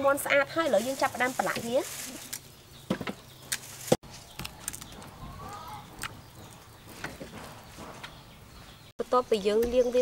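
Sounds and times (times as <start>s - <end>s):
bird chirping: 1.4s - 10.0s.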